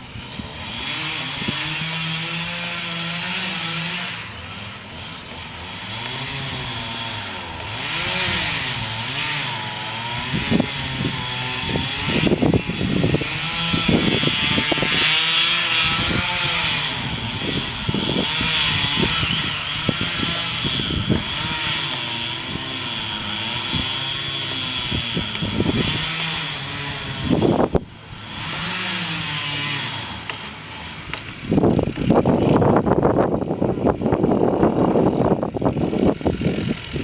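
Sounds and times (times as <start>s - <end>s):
chainsaw engine running: 0.0s - 37.0s.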